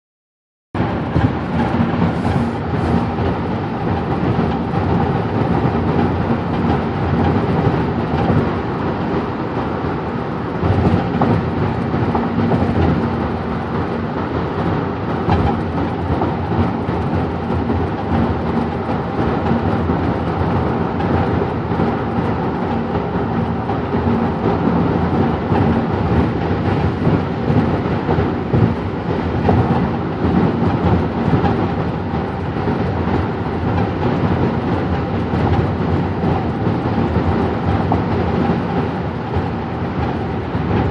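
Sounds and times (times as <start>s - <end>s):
car road rumble: 0.8s - 40.9s.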